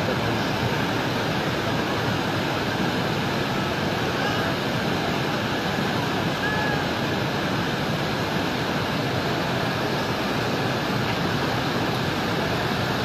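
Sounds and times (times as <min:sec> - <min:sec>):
rushing floodwater: 0:00.0 - 0:13.0.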